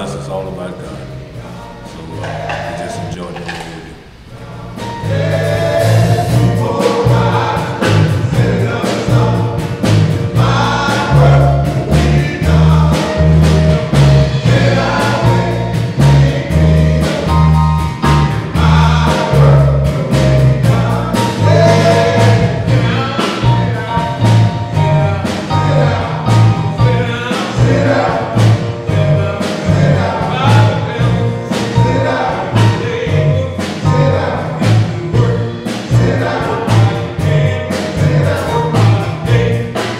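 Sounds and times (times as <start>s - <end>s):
men's group singing gospel: 0.0s - 39.9s
steady beat: 0.0s - 39.9s
walking bass line: 1.2s - 39.8s.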